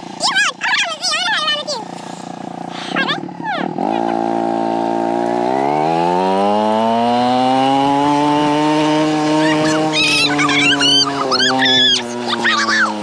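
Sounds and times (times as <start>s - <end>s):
dirt bike engine revving: 1.8s - 13.0s.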